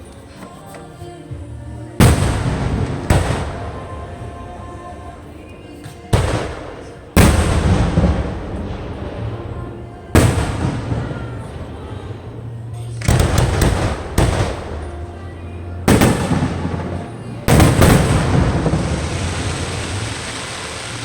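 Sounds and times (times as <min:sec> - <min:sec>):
rumble after fireworks: 0:00.0 - 0:21.0
fireworks bangs: 0:02.0 - 0:21.0.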